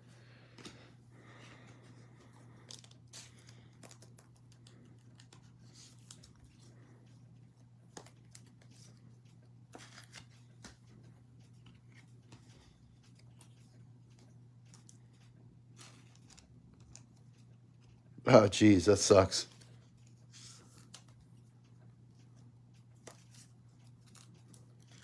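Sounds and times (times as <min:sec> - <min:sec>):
low electrical hum: 0:00.0 - 0:25.0
cards and wrappers rustling: 0:00.5 - 0:07.2, 0:07.8 - 0:21.4, 0:22.2 - 0:25.0.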